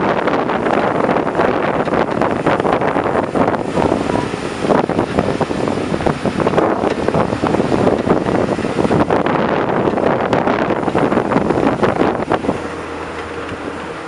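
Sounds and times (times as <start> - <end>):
bus running noise: 0.0 - 14.0
wind rushing over microphone: 0.0 - 14.0.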